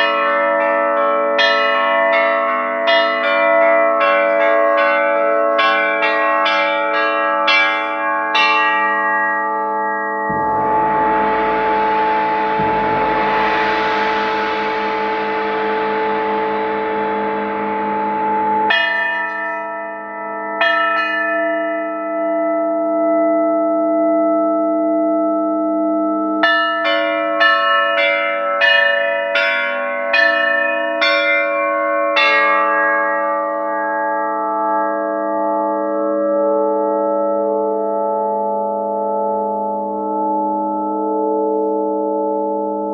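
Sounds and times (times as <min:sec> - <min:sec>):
tuned bells ringing a melody: 0:00.0 - 0:10.5, 0:18.7 - 0:42.9.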